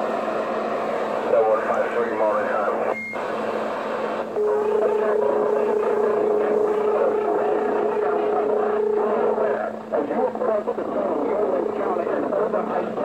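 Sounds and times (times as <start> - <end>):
steady tone: 0.0 - 11.9
steady hum: 0.0 - 13.0
garbled radio transmission: 1.2 - 3.6, 4.2 - 13.0.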